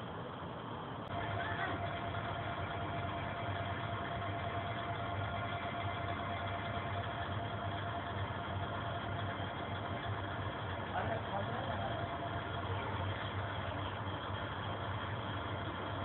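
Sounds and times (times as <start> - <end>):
diesel railcar engine idling: 0.0 - 16.0.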